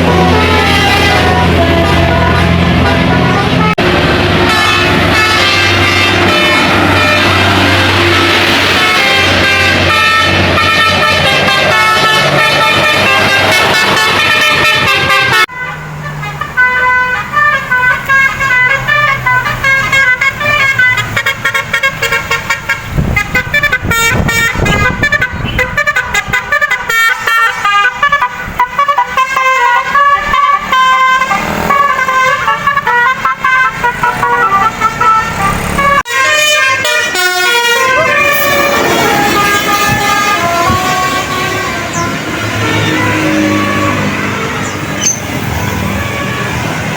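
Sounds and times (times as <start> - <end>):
bus musical air horns: 0.0 - 46.9.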